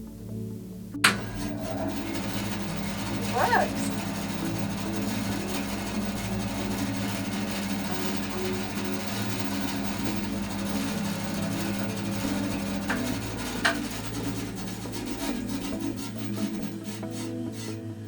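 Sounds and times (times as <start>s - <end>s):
bandsaw motor and blade hum: 1.0s - 18.0s.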